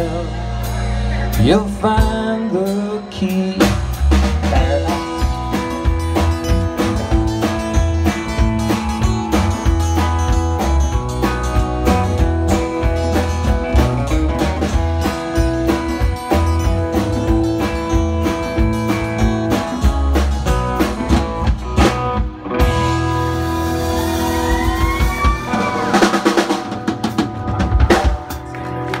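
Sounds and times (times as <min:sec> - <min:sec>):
drum kit beat: 0:00.0 - 0:29.0
electric guitar bending notes: 0:00.0 - 0:29.0
drum roll: 0:03.4 - 0:29.0.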